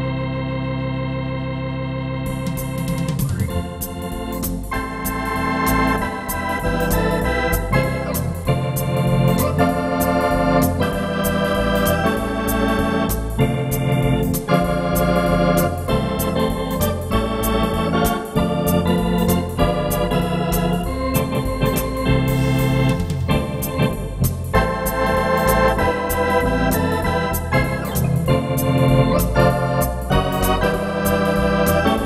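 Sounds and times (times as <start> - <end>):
electronic organ playing swing: 0.0 - 32.0
pedal bass line: 0.0 - 32.0
steady ticking beat: 2.3 - 32.0.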